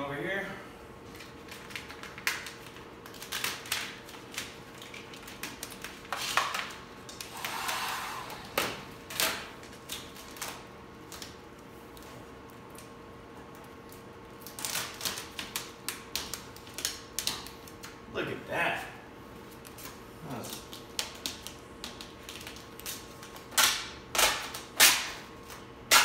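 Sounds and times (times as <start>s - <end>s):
faint steady hum: 0.0s - 26.0s
vinyl film crackling and snapping: 1.1s - 7.6s, 9.0s - 18.0s, 19.5s - 26.0s.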